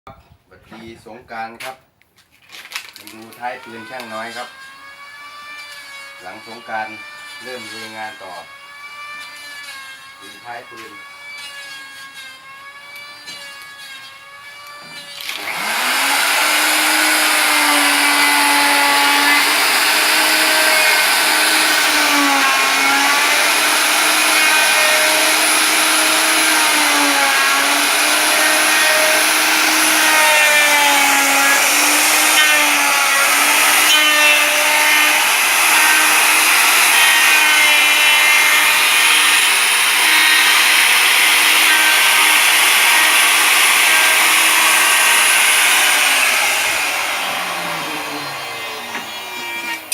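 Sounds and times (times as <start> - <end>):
power tool cutting wood: 2.7 - 49.9.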